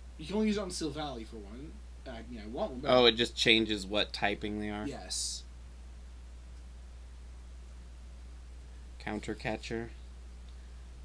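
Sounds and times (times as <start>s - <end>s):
faint hiss: 0.0s - 11.0s
steady low hum: 0.0s - 11.0s.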